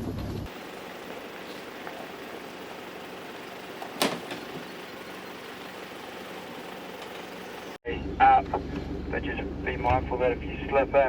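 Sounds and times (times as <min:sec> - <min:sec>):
engine running at low revs: 0:00.5 - 0:09.9.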